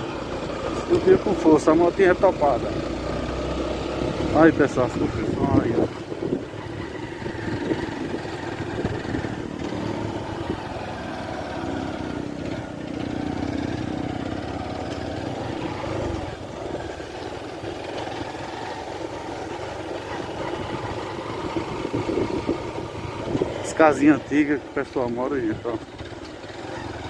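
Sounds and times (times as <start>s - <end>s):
small motorcycle engine running: 0.0s - 27.0s.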